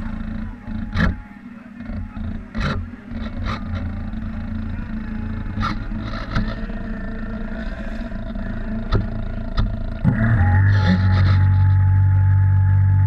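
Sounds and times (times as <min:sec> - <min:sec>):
model boat motor humming: 0:00.0 - 0:13.0.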